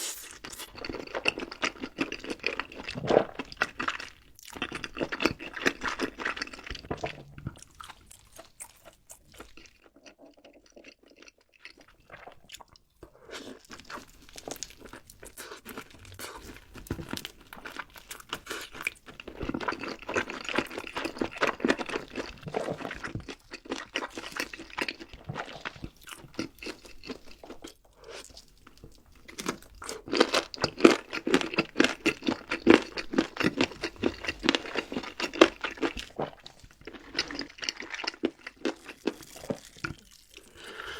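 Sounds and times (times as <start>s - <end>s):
crunching and chewing crisp food: 0.2s - 40.9s.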